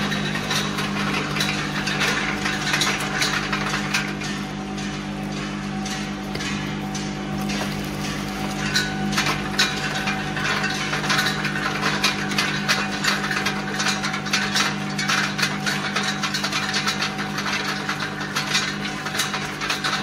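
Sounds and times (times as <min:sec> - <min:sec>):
machine clicks and rattles: 0:00.0 - 0:20.0
packing machine humming: 0:00.0 - 0:20.0.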